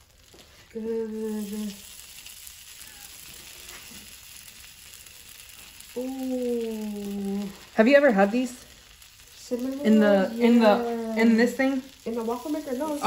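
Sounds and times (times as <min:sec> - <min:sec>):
dough sizzling on hot plates: 0:00.0 - 0:13.0.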